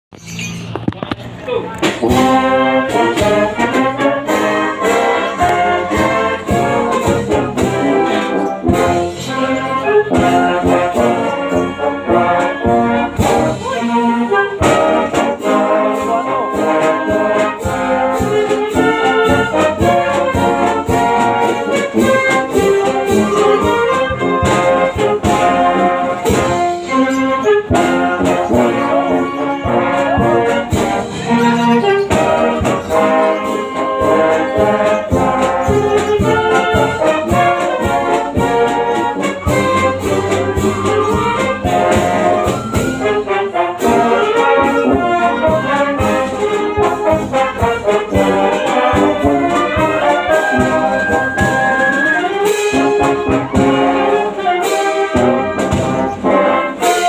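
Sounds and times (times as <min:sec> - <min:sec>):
brass band playing: 0:01.7 - 0:57.0
bass drum and snare beat: 0:01.8 - 0:13.8, 0:14.6 - 0:54.1.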